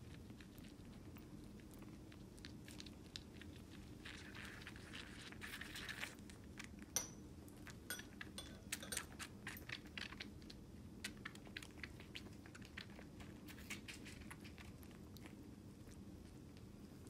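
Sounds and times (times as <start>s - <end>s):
kittens suckling wet clicks: 0.0s - 17.0s.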